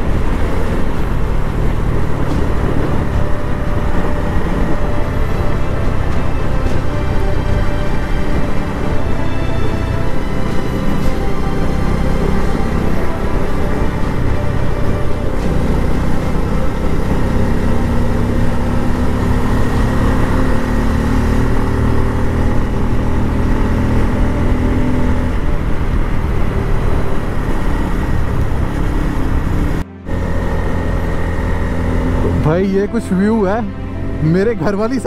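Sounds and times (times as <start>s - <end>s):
motorcycle engine cruising: 0.0s - 35.0s
road and wind noise: 0.0s - 35.0s.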